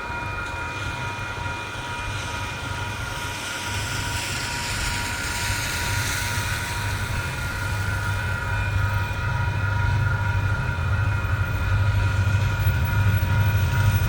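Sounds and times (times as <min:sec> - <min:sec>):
train rumbling by: 0:00.0 - 0:14.0.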